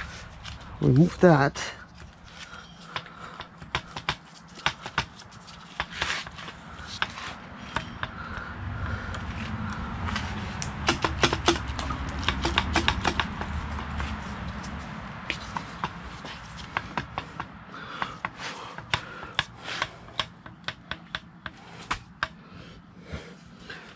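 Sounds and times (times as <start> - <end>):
tools and engine parts clicking: 1.9 - 14.0, 15.2 - 22.4.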